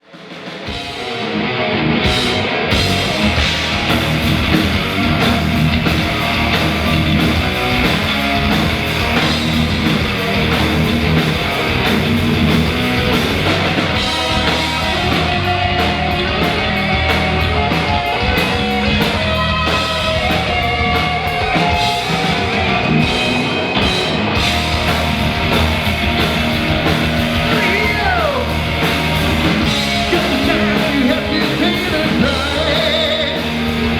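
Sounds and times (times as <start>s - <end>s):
drums and cymbals: 0.0s - 1.4s, 2.0s - 33.9s
distorted electric guitars: 0.0s - 33.9s.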